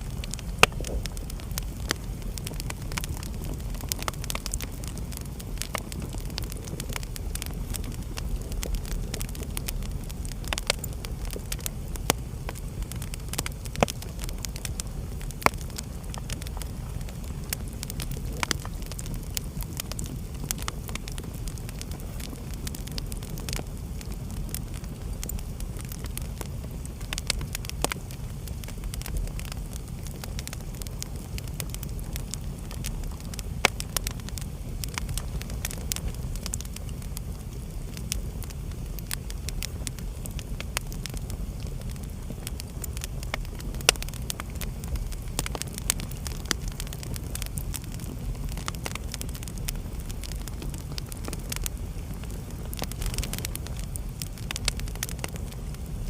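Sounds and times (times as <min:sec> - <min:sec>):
flames rumbling: 0:00.0 - 0:56.0
wood fire crackling and popping: 0:00.0 - 0:56.0.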